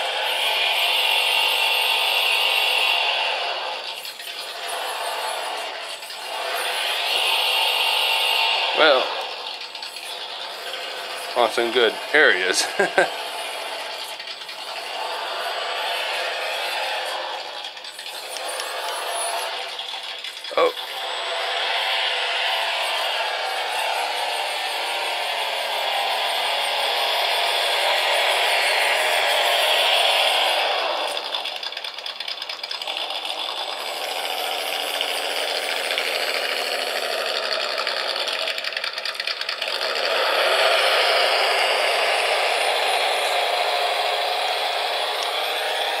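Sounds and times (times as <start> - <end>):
toy car motor whining: 0.0 - 46.0.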